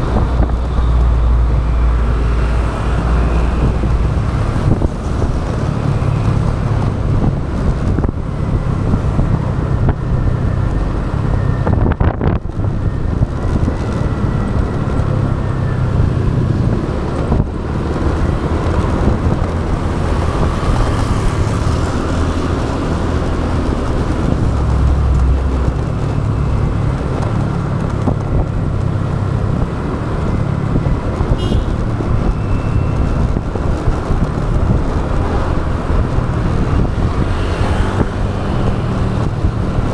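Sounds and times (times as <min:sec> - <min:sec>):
motorbike engine rumble: 0:00.0 - 0:39.9
passing traffic: 0:00.0 - 0:39.9
wind buffeting microphone: 0:00.0 - 0:39.9.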